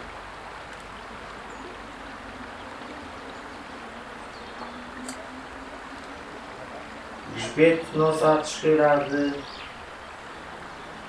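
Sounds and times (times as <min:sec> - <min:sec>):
river water rushing past gravel: 0:00.0 - 0:11.0.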